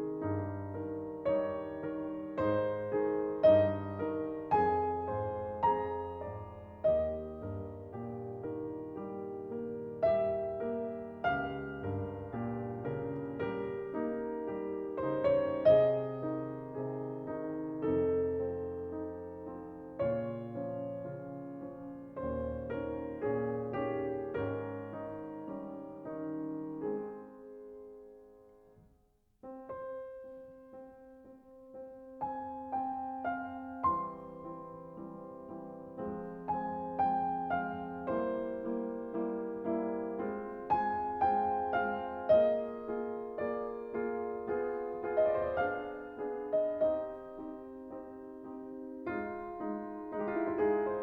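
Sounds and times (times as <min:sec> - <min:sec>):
gentle solo piano music: 0:00.0 - 0:51.0.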